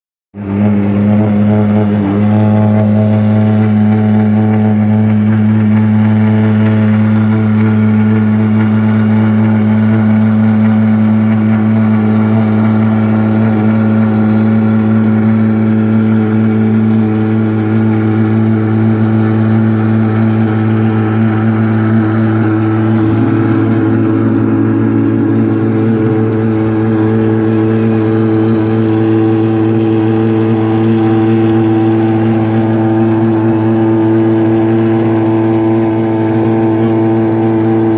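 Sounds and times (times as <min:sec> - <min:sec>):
car engine idling loudly: 0:00.3 - 0:37.9.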